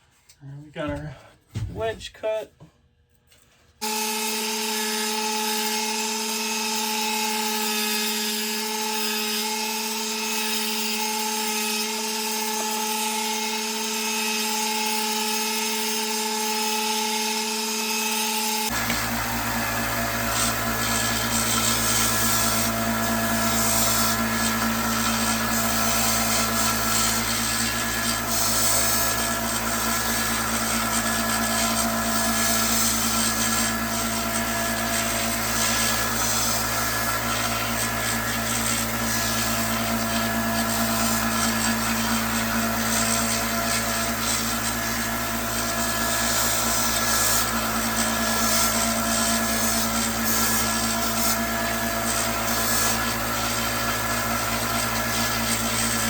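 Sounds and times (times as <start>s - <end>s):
electric power tool motor hum: 3.8s - 56.0s.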